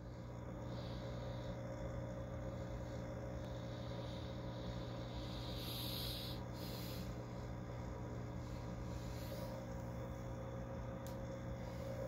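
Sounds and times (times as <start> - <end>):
aquarium equipment hum: 0.0 - 12.0.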